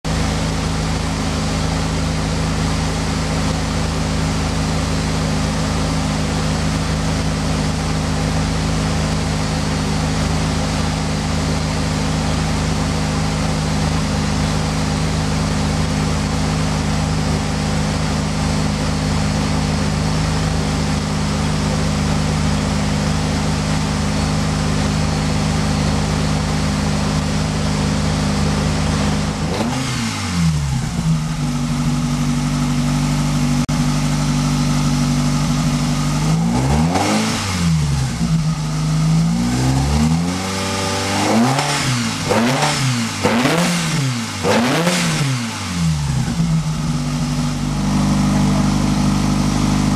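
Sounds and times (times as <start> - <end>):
racing engine running steadily: 0.1 - 49.9.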